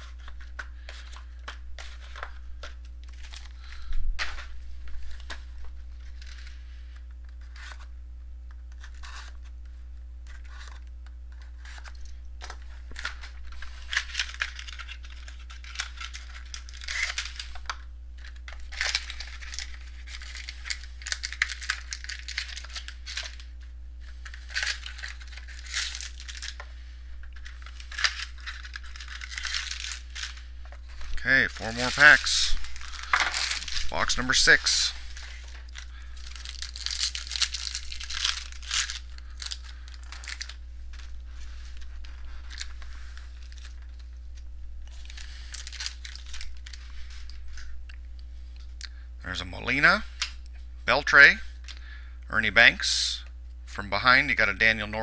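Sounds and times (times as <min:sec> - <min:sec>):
wrapping tearing and crinkling: 0:00.0 - 0:07.9, 0:08.7 - 0:09.5, 0:10.2 - 0:48.9.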